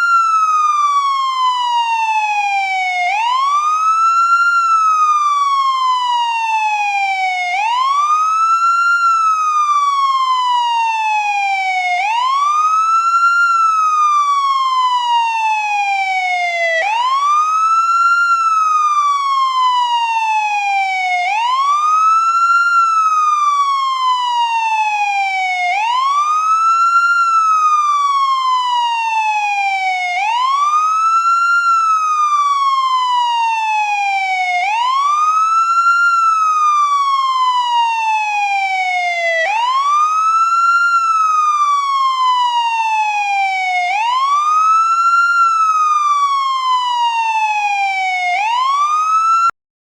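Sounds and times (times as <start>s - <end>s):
ambulance siren wailing: 0.0s - 49.6s.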